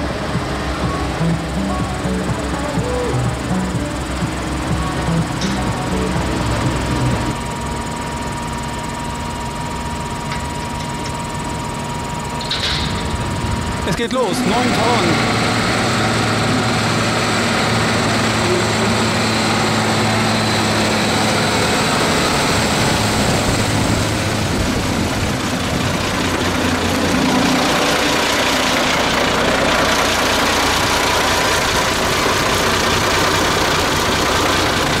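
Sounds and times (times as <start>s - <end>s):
tractor diesel engines running: 0.0s - 35.0s.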